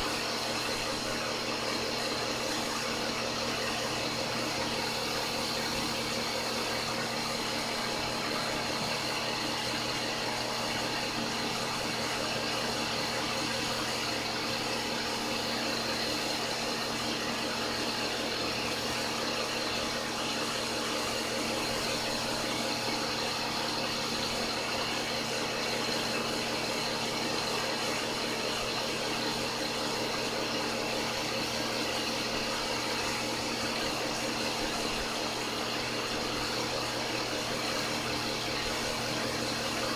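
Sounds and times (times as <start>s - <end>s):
pump machine hum: 0.0s - 39.9s.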